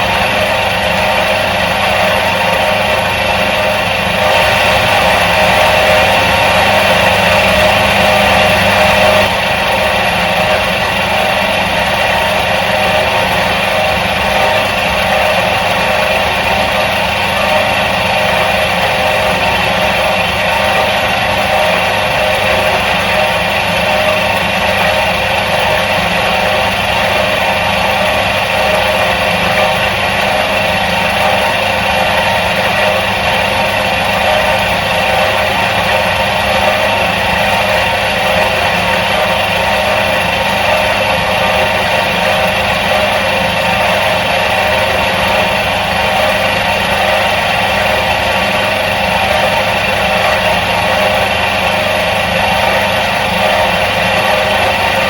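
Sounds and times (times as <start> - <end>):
washing machine motor humming: 0.0 - 55.0.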